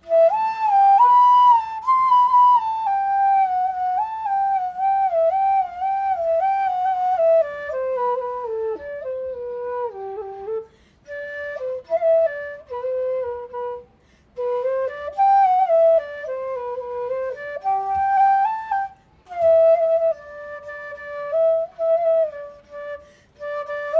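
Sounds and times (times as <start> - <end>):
solo flute melody: 0.0 - 23.9.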